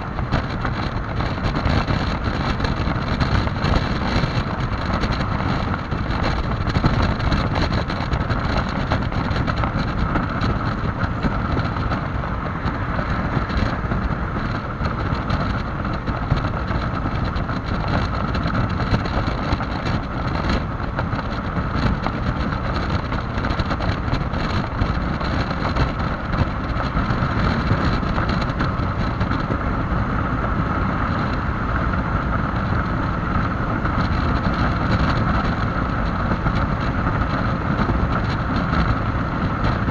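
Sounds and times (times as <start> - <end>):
scooter engine running: 0.0 - 39.9
wind buffeting microphone: 0.0 - 39.9.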